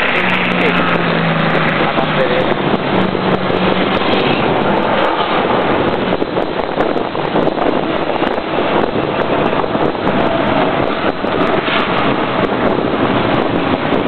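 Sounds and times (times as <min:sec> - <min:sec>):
race car engine at speed: 0:00.0 - 0:14.0
wind noise on microphone: 0:00.0 - 0:14.0.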